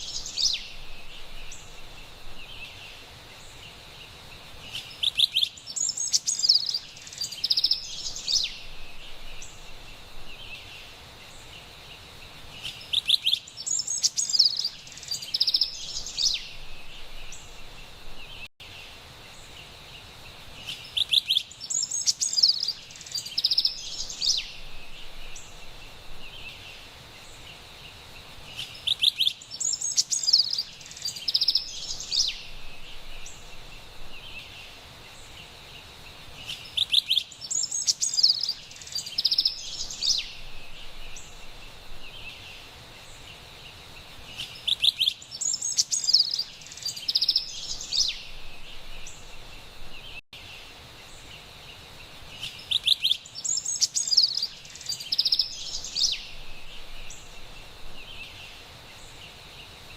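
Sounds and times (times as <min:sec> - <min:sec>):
faint high-pitched hiss: 0:00.0 - 0:59.9
wren song: 0:00.0 - 0:59.9.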